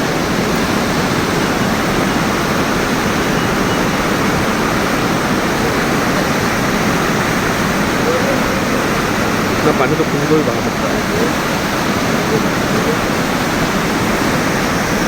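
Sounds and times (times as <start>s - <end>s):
river torrent rushing through barrage: 0.0s - 15.0s.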